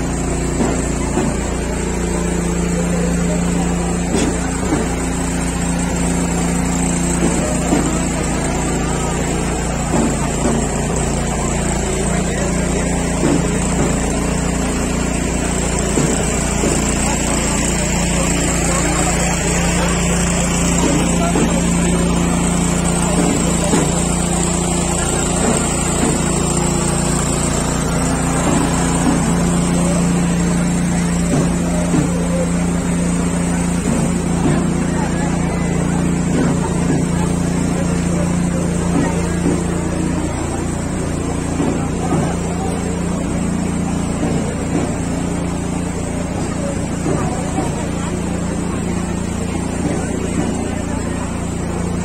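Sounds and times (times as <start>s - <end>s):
engine running steadily: 0.0s - 52.0s
faint voices: 0.0s - 52.0s.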